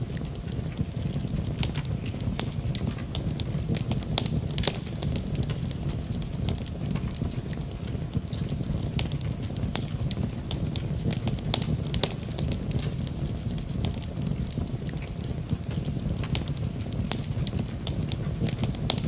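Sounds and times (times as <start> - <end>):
burning logs popping and snapping: 0.0 - 19.0
low rumble of flames: 0.0 - 19.0.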